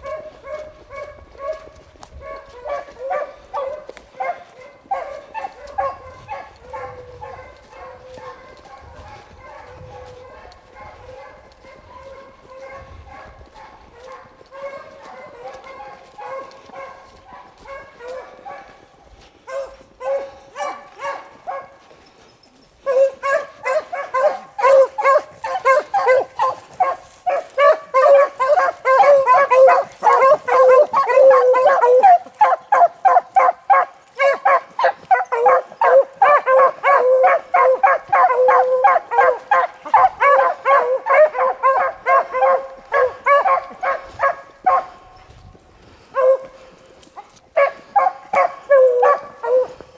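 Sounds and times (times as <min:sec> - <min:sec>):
hounds baying: 0:00.0 - 0:49.9.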